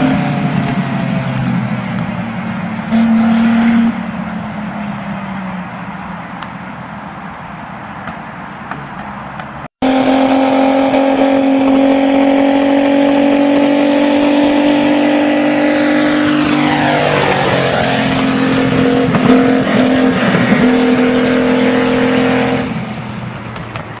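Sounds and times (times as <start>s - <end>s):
vehicle engine at high revs: 0.0s - 24.0s.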